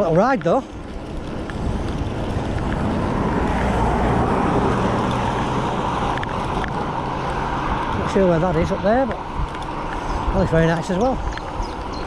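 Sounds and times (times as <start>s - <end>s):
road noise from bike: 0.0s - 12.0s
wind rush on microphone: 0.0s - 12.0s.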